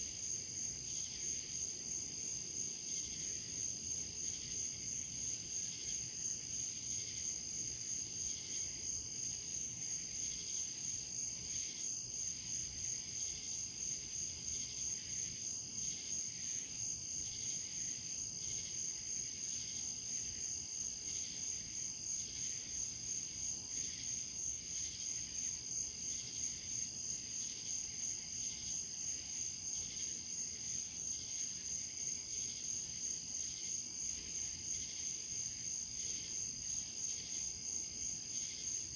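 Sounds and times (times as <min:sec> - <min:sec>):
insects chirping in a trill: 0:00.0 - 0:38.9.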